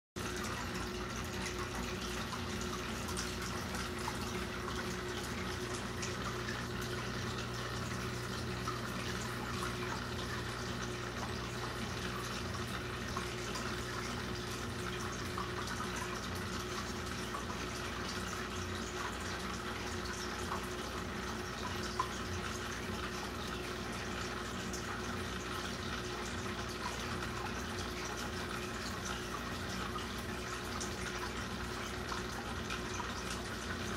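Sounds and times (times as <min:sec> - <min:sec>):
constant low hum: 0:00.2 - 0:33.9
water trickling and bubbling: 0:00.2 - 0:33.9.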